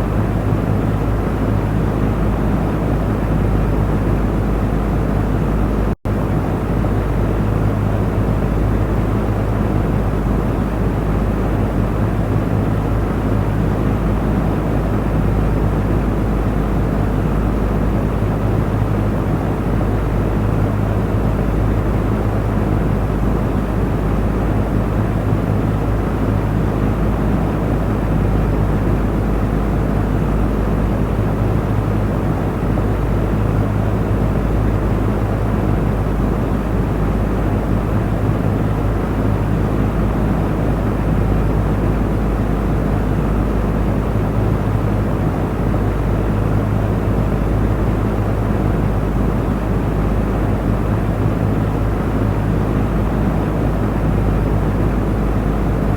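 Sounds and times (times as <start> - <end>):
electric fan running: 0.0 - 55.9.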